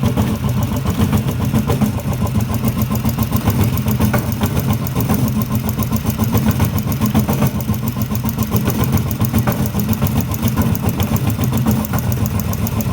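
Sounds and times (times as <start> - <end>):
compressor running: 0.0 - 12.9.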